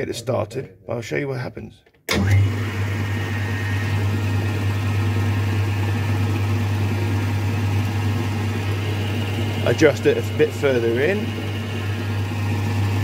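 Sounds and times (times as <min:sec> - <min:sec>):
metalworking lathe running: 0:02.1 - 0:13.0.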